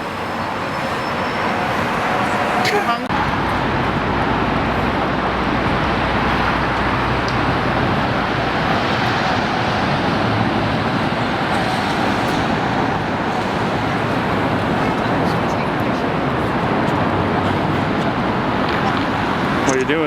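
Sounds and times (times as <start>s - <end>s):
moving vehicle rumbling: 0.0s - 20.0s.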